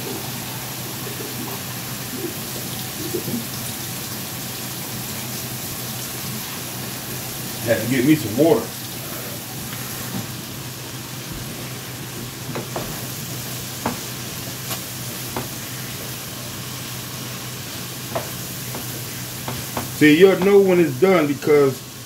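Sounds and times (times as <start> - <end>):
corn sizzling in a skillet: 0.0 - 22.0.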